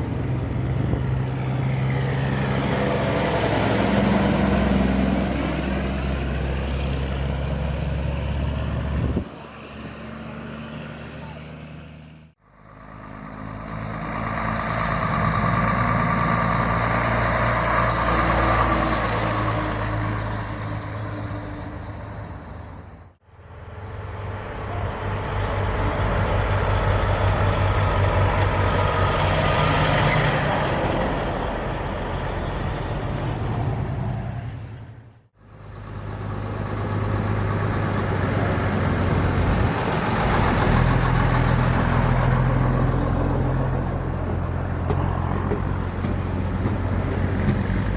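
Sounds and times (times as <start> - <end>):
truck engines passing: 0.0 - 47.9.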